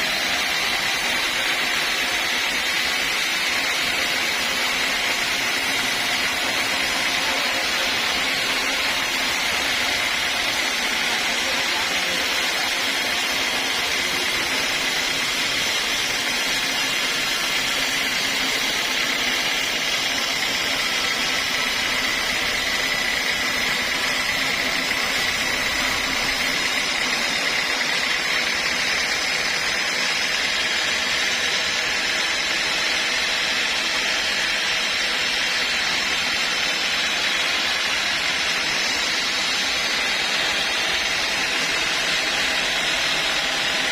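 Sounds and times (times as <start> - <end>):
sawmill machine whine: 0.0 - 43.9.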